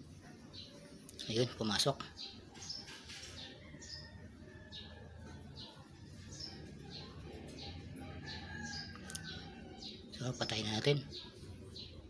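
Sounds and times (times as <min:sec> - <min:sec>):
small bird chirping: 0:00.4 - 0:12.0.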